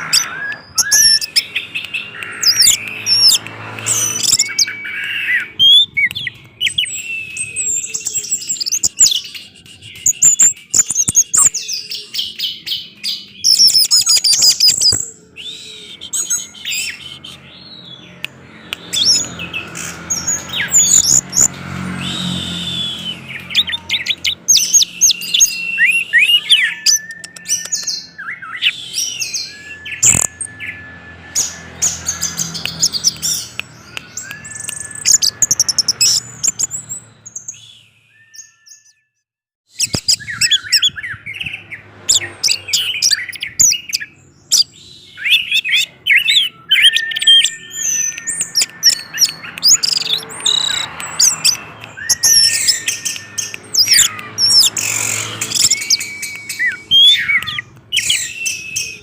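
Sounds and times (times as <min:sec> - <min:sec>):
thrush singing: 0:00.0 - 0:37.7, 0:40.2 - 0:59.0.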